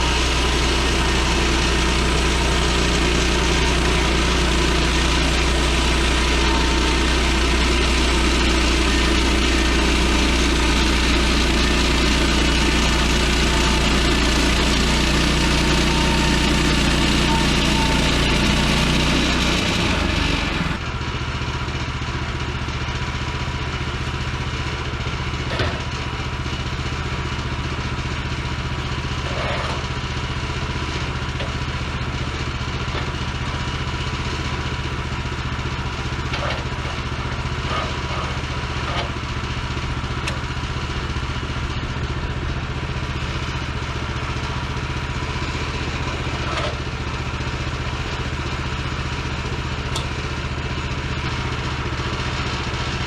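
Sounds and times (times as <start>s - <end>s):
bandsaw mill engine running: 0.0s - 53.0s.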